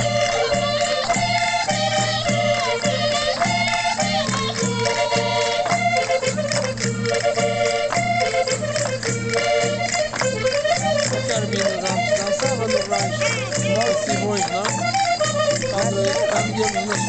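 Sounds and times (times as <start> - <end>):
accordion melody: 0.0 - 17.0
rattling percussion: 0.0 - 17.0.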